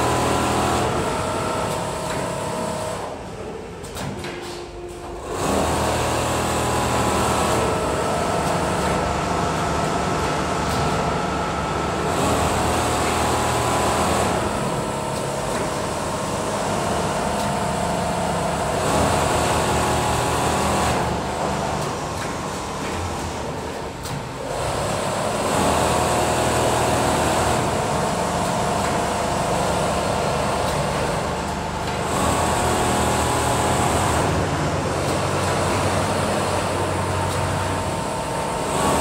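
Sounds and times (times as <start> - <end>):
sewing machines whirring: 0.0 - 39.0.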